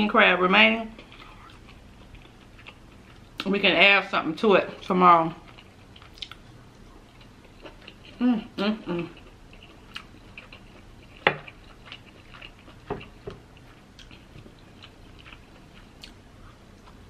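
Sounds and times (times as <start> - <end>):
mouth chewing food: 1.0 - 3.5, 4.8 - 17.0.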